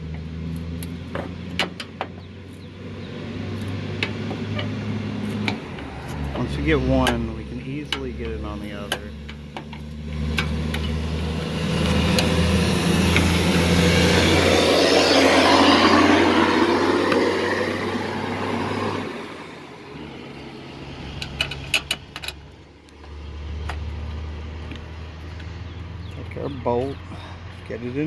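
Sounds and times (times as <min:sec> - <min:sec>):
vehicle driving past: 0:02.2 - 0:21.8, 0:22.4 - 0:28.0.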